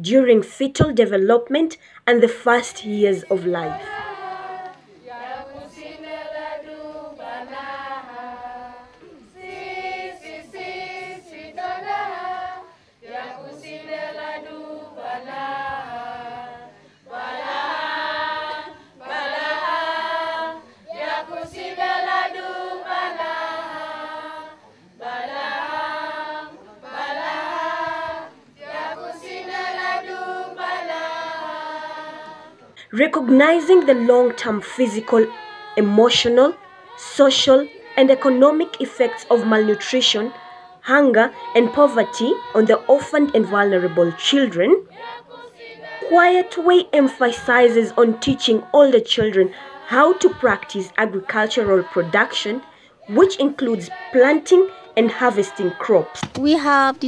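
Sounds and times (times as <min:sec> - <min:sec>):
choir singing: 0:02.6 - 0:56.5.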